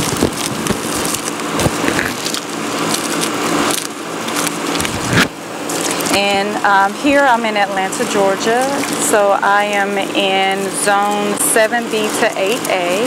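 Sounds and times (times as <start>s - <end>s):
dry seed heads crackling: 0.0s - 13.0s.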